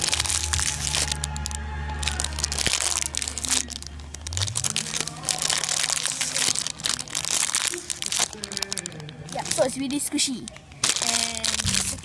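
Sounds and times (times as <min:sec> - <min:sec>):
low steady hum: 0:00.0 - 0:12.0
plastic wrapper crinkling: 0:00.0 - 0:12.0.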